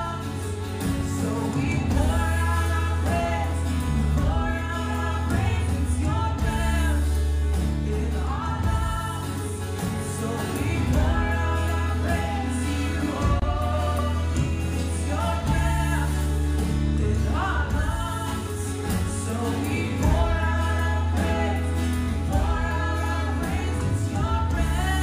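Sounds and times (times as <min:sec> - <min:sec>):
voices singing worship music: 0:00.0 - 0:25.0.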